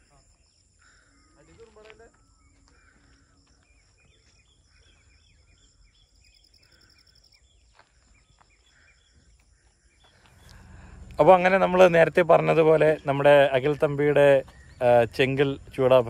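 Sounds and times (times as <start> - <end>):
soft bird chirps: 0.0 - 11.1, 11.9 - 16.0
high insect hum: 0.0 - 16.0.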